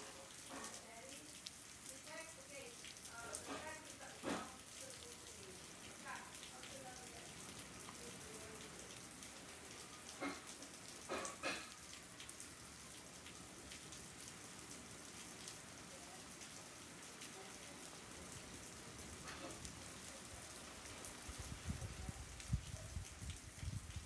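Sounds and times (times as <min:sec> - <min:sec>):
single raindrops ticking: 0:00.0 - 0:24.0
steady rain falling: 0:00.0 - 0:24.0.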